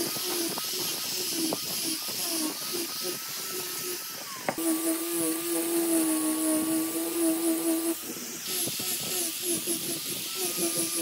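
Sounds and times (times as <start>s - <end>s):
angle grinder whine: 0.0s - 11.0s
disc sanding wood hiss: 0.0s - 11.0s.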